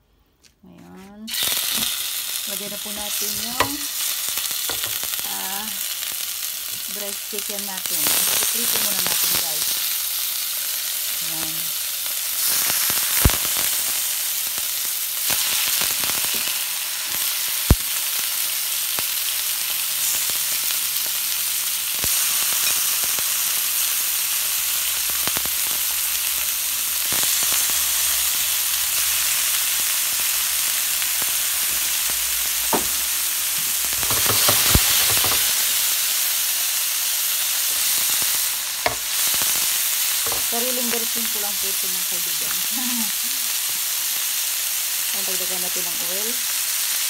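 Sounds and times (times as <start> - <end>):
food sizzling in a pan: 1.3 - 47.0.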